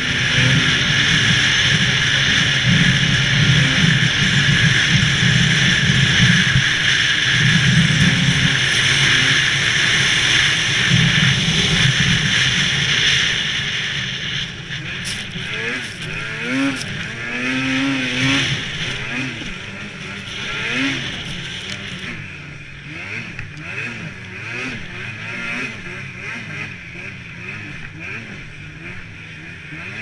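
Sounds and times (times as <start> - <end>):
hiss of track and wind: 0.0 - 26.6
snowmobile engine drone: 0.0 - 30.0.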